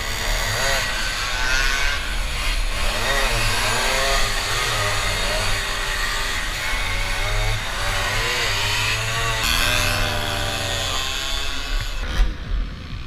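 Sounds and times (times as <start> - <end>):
moped engines revving: 0.0 - 13.0.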